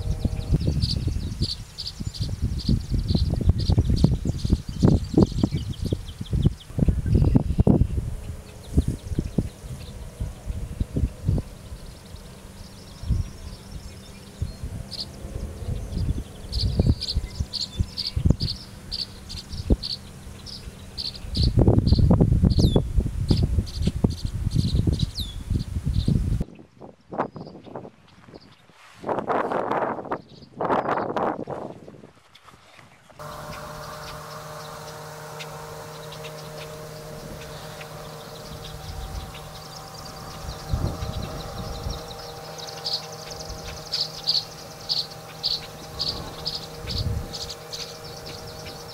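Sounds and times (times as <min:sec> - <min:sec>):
steady distant hum: 0:00.0 - 0:26.4, 0:32.3 - 0:48.9.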